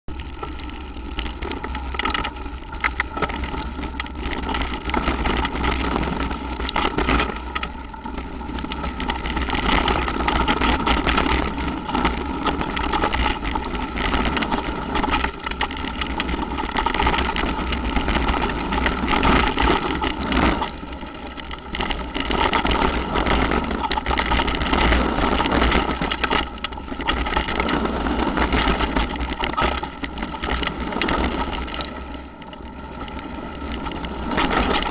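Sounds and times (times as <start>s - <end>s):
bike rattling over bumps: 0.1s - 34.9s
bike tyre noise on gravel: 0.1s - 34.9s.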